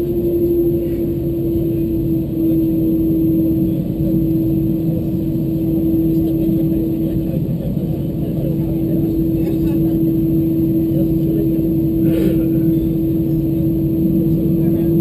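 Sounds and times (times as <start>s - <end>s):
jet engines humming in cabin: 0.0s - 15.0s.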